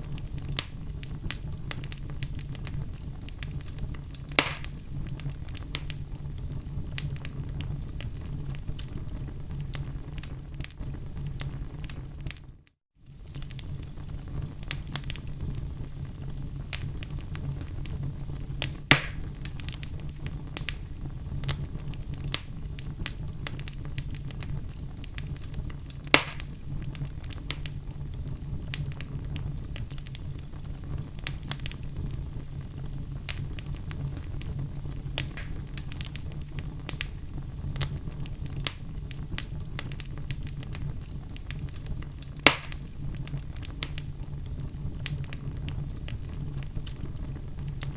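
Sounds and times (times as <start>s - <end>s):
fire crackling: 0.0s - 47.9s
loud fire pops: 0.0s - 47.9s
low rumble of flames: 0.0s - 47.9s.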